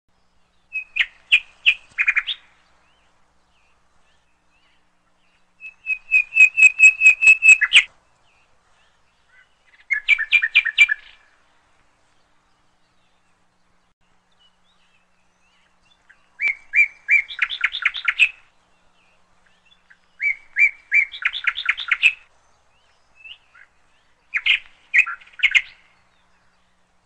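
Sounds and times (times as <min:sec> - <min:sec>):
songbird singing trill: 0:00.1 - 0:27.0.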